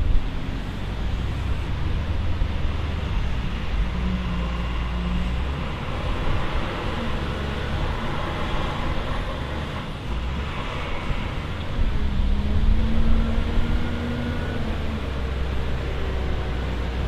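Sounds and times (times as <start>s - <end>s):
diesel engine working under load: 0.0s - 17.0s.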